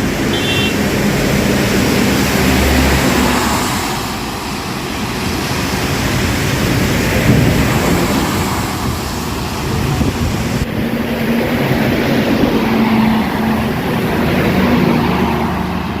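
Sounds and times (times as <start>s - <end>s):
heavy rain: 0.0s - 16.0s
tyre noise on road: 0.0s - 16.0s.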